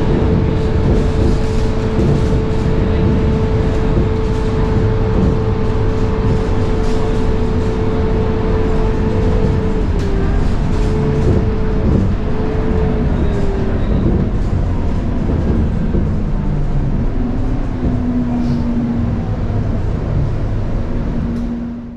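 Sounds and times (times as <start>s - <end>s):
bus diesel engine drone: 0.0s - 21.9s.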